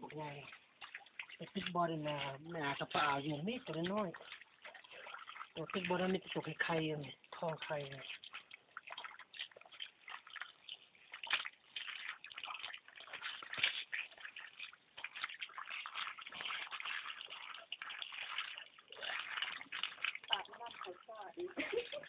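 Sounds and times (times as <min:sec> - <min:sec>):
water splashing and dripping: 0:00.0 - 0:22.0.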